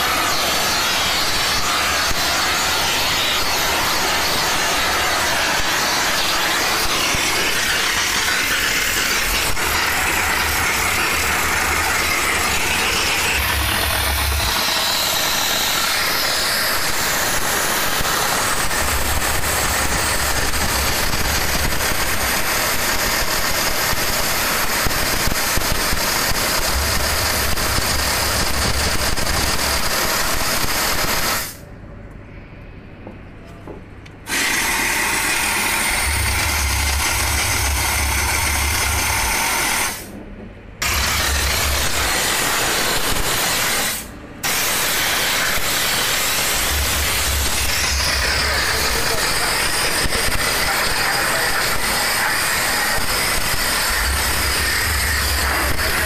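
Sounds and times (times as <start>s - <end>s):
steam spray gun hissing: 0.0s - 31.6s, 34.3s - 40.1s, 40.8s - 56.0s.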